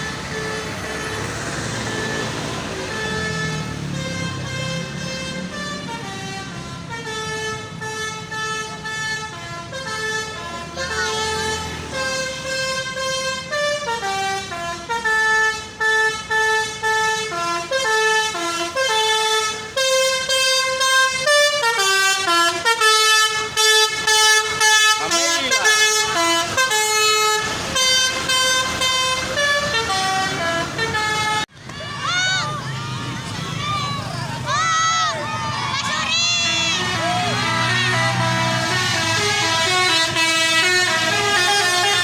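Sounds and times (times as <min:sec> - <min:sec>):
multi-tone air horn playing a tune: 0:02.8 - 0:31.5, 0:35.9 - 0:42.0.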